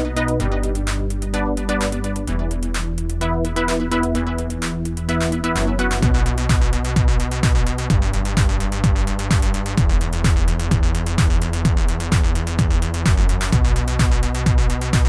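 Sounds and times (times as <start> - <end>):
drum machine kick: 0.0 - 15.0
synthesizer chords: 0.0 - 15.0.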